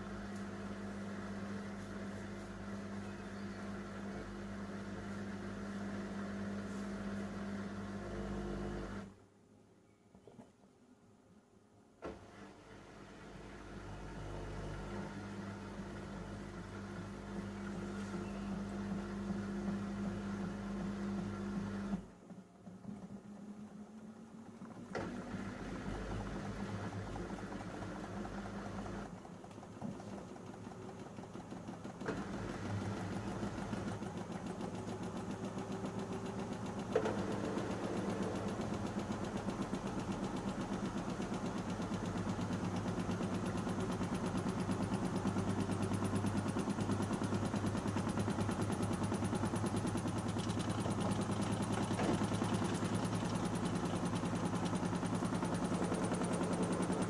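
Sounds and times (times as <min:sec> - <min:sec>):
washing machine motor running: 0:00.0 - 0:09.2, 0:12.3 - 0:57.0.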